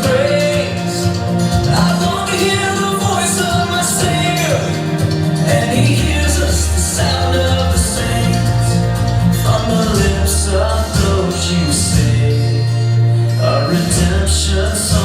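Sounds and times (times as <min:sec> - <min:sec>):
drums with cymbal splashes: 0:00.0 - 0:12.5
bass: 0:00.0 - 0:15.0
guitar: 0:00.0 - 0:15.0
people singing: 0:00.0 - 0:15.0.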